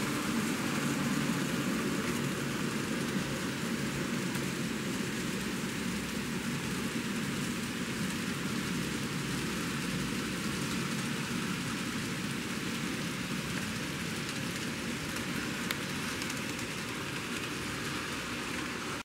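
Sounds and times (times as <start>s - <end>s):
small wheels rattling on rails: 0.0s - 19.0s.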